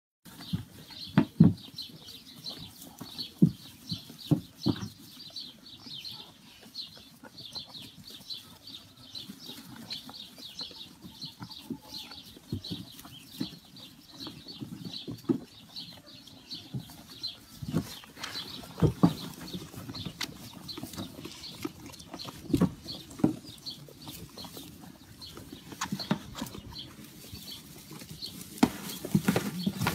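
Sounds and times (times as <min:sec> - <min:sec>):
animals munching hay: 0:00.3 - 0:29.9
small birds chirping: 0:00.3 - 0:29.9.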